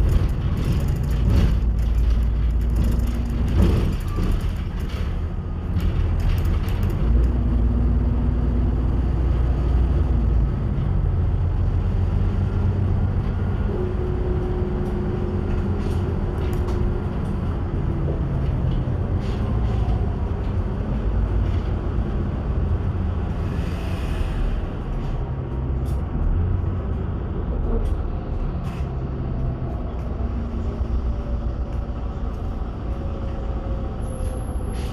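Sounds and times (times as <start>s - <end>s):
bus engine and road rumble: 0.0s - 34.9s.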